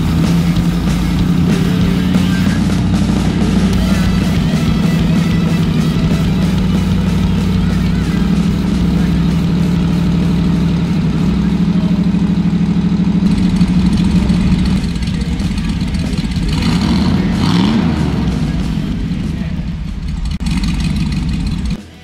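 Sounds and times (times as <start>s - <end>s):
engine at fast idle: 0.0s - 22.0s
engine revving: 0.0s - 22.0s.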